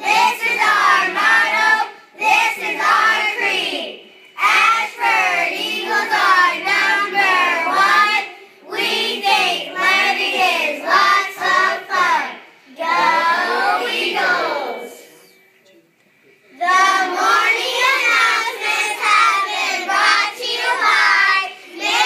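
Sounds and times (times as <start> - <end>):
young children singing: 0.0 - 15.2, 16.6 - 22.0.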